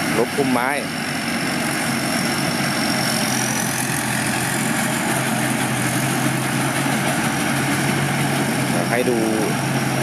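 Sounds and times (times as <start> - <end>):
combine harvester machinery drone: 0.0 - 10.0.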